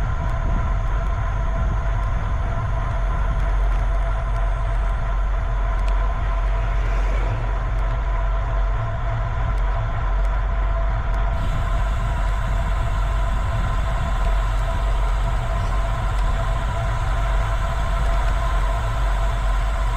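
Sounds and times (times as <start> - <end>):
wind on microphone: 0.0 - 19.9.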